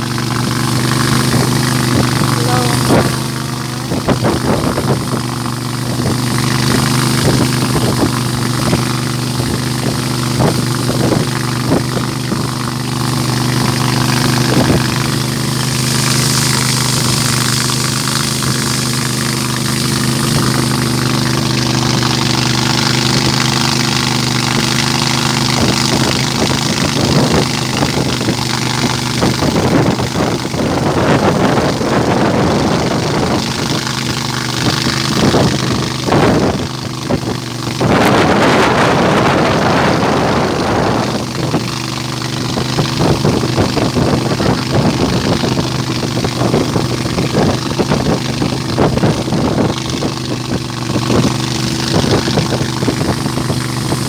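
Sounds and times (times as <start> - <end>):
motorboat engine running: 0.0 - 54.0
wind and water rushing: 0.0 - 54.0.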